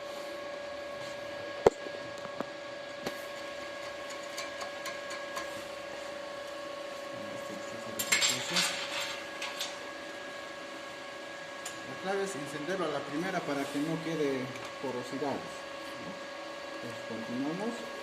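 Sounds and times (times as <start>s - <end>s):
welding machine humming: 0.0s - 18.0s.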